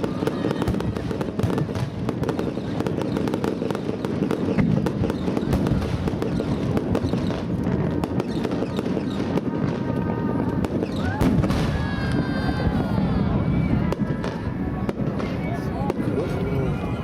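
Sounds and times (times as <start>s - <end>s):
fireworks cracking and crackling: 0.0s - 17.0s.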